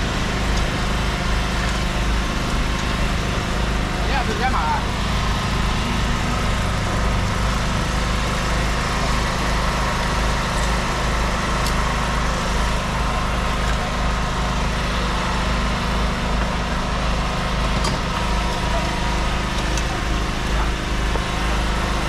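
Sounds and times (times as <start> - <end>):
motor droning: 0.0 - 22.0.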